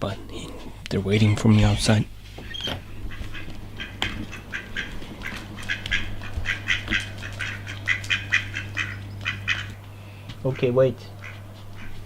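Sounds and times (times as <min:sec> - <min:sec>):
steady low hum: 0:00.0 - 0:12.0
birds calling rapidly: 0:01.0 - 0:12.0.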